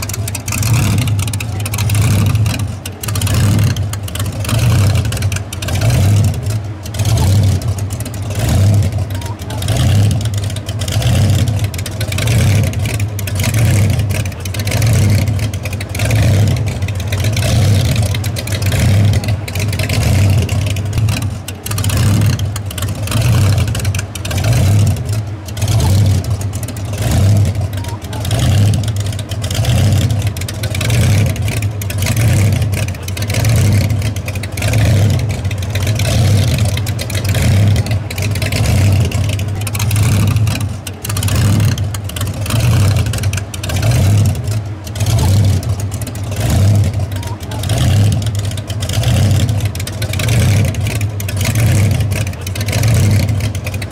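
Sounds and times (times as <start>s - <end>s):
supercharged car engine idling: 0.0s - 53.9s.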